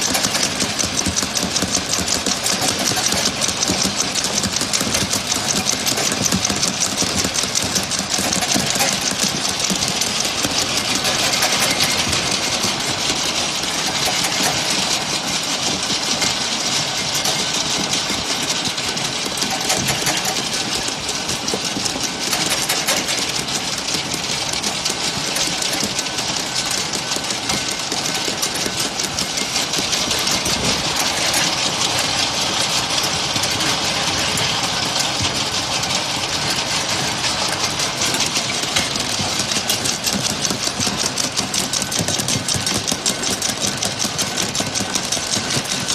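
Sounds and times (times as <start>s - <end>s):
washing machine clattering: 0.0s - 45.9s.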